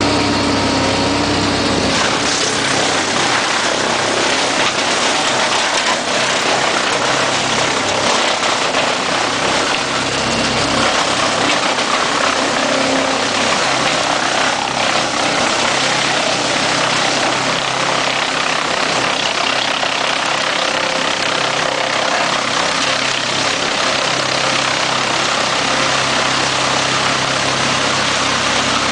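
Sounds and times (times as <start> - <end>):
wood chipper engine humming: 0.0 - 28.9
wood chipper loud dense noise: 0.0 - 28.9.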